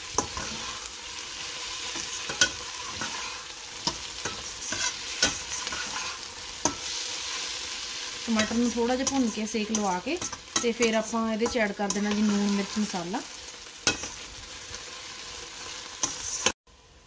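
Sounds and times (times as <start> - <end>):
metal spatula scraping a pot: 0.0 - 13.1, 13.8 - 14.4, 16.0 - 16.6
vegetables sizzling in a pot: 0.0 - 17.0.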